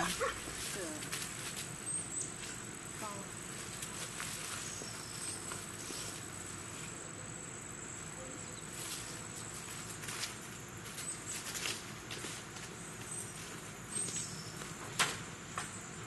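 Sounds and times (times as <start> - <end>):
high-pitched insect trill: 0.0 - 14.6.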